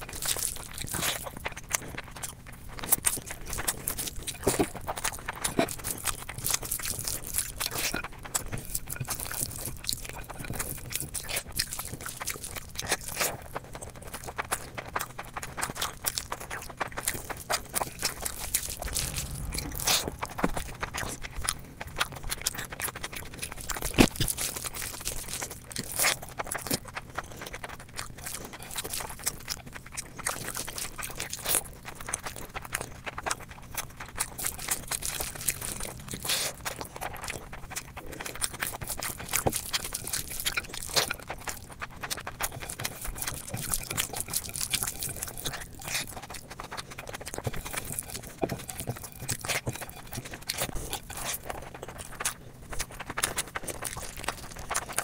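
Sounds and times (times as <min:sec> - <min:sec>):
chewing and crunching: 0:00.0 - 0:55.0.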